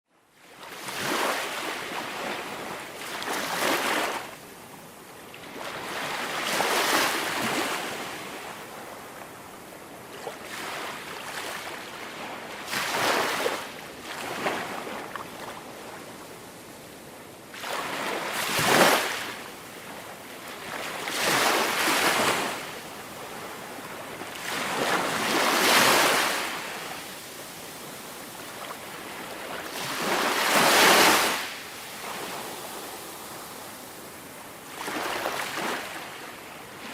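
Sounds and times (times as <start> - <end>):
small waves washing onto sand: 0.5 - 36.9.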